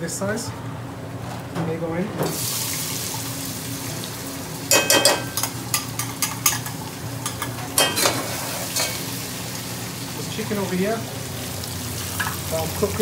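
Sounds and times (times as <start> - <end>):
onions sizzling in a pot: 2.3 - 13.0.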